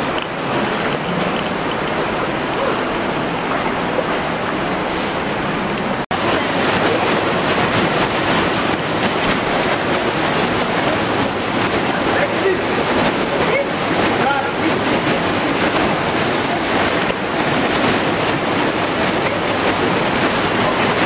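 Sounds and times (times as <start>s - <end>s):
mountain stream rushing: 0.0s - 21.0s
people wading and splashing: 0.0s - 21.0s.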